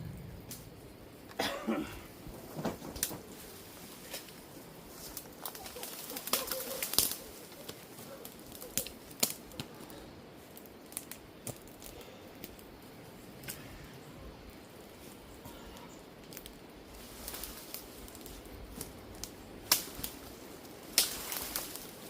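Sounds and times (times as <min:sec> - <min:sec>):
twigs crackling and snapping: 0:02.3 - 0:12.8, 0:14.5 - 0:22.0.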